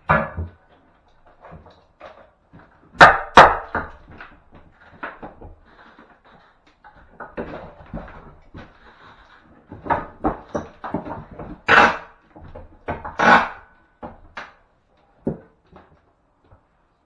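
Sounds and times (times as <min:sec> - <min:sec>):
hand tool knocking and scraping wood: 0:00.0 - 0:16.0.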